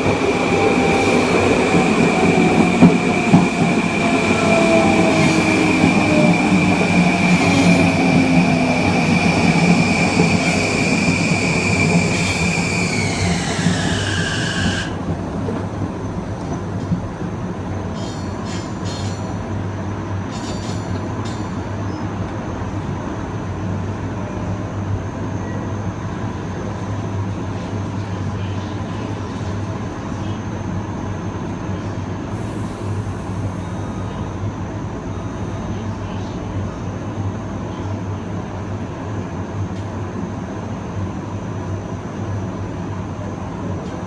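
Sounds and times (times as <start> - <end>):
train inverter whine: 0.0 - 44.0
train wheel and rolling noise: 0.0 - 44.0.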